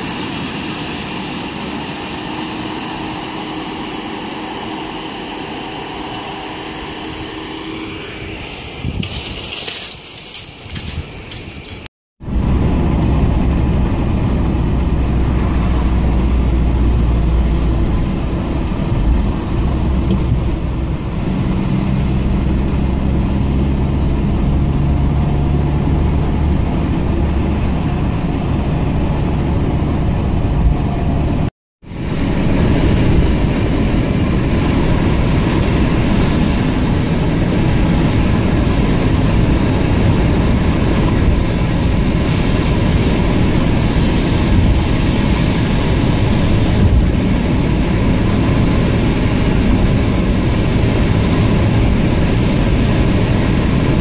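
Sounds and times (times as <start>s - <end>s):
car road and engine drone: 0.0s - 54.0s.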